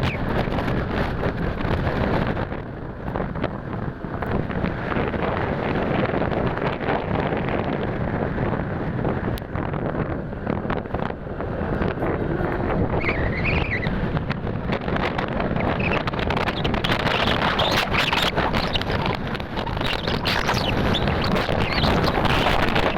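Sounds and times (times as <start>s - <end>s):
motorcycle running on the road: 0.0s - 22.9s
wind buffeting the microphone: 0.0s - 22.9s.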